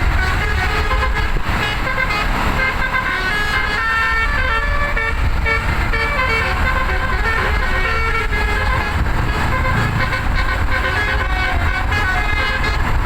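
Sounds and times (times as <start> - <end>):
low engine rumble: 0.0 - 13.0
musical air horn tune: 0.0 - 13.0.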